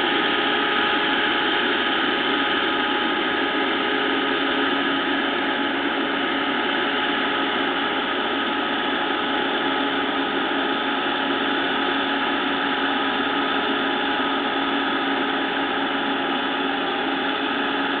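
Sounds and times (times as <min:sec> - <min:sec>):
combine harvester droning: 0:00.0 - 0:18.0.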